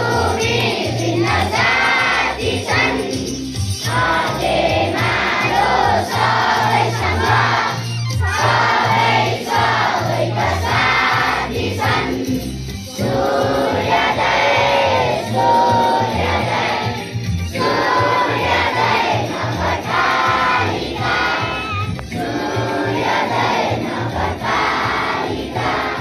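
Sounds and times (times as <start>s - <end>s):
children singing in unison: 0.0s - 26.0s.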